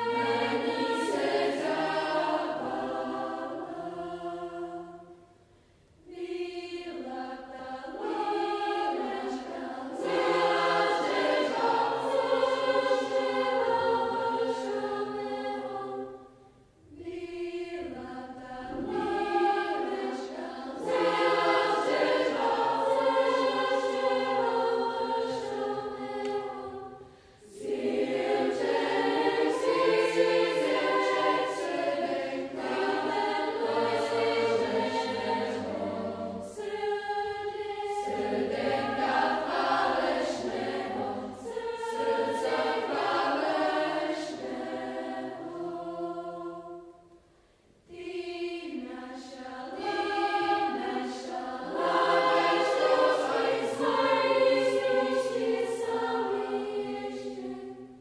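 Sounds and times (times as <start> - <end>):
girls' choir singing: 0.0 - 58.0.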